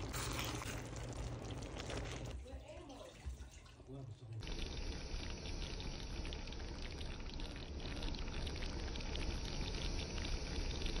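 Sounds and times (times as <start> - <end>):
stew bubbling in a pot: 0.0 - 11.0.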